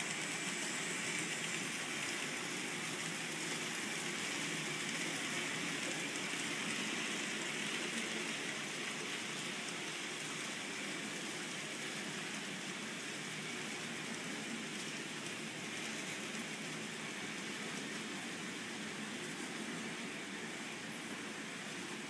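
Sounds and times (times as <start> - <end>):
model train wheels whirring: 0.0 - 22.0.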